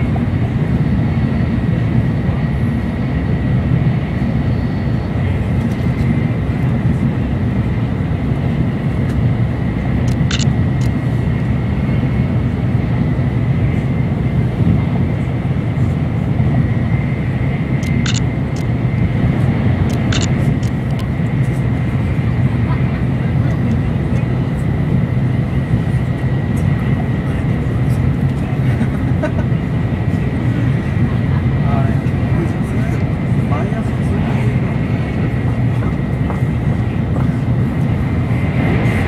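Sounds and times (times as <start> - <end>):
train cabin rumble: 0.0 - 39.0.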